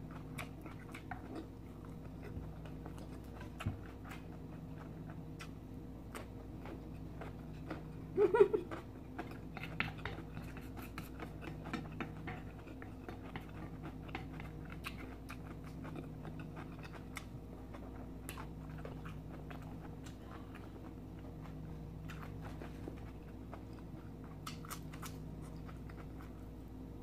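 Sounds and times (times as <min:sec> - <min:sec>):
chewing and mouth sounds: 0:00.0 - 0:26.6
faint low hum: 0:00.0 - 0:27.0.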